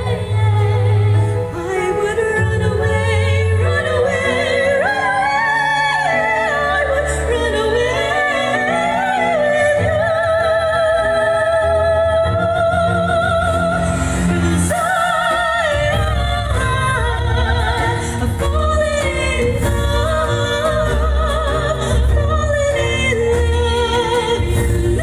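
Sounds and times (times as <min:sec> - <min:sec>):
instrumental accompaniment with bass: 0:00.0 - 0:25.0
women singing classical duet: 0:00.0 - 0:25.0.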